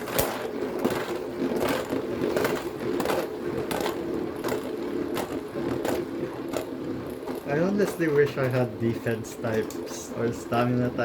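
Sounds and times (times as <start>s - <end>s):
spinning tops whirring: 0.0s - 11.0s
tops clacking: 0.0s - 11.0s.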